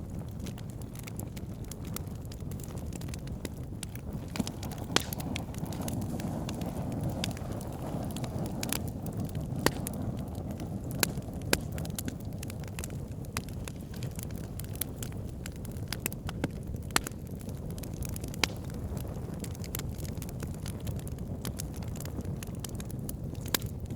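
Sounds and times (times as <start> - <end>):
low fire rumble: 0.0 - 23.9
wood fire crackling and popping: 0.0 - 23.9.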